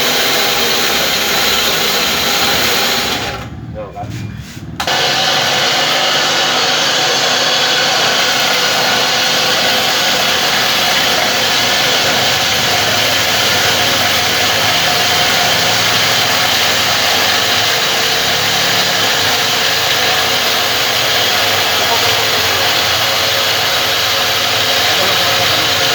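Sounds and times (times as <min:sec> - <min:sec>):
grinding machine whirring: 0:00.0 - 0:25.9.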